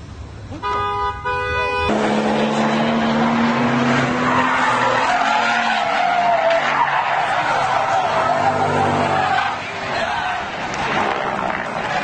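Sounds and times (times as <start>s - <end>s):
tyres squealing: 1.9s - 12.0s.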